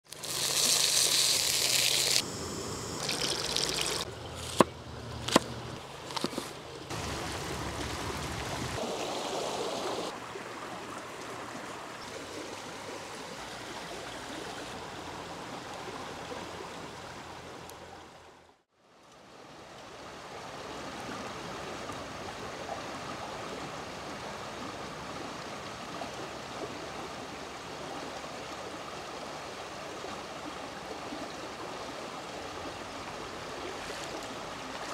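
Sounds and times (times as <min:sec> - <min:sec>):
stream flowing over stones: 0:00.0 - 0:34.9.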